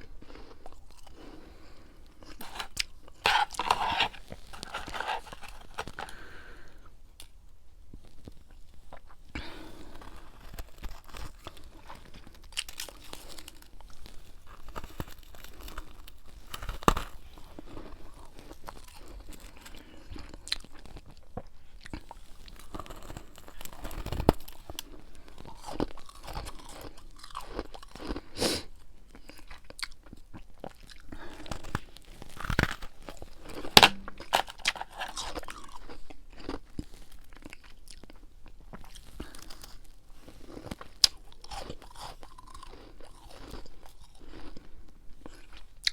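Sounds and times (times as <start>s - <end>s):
chewing crunchy frost: 0.0s - 45.9s.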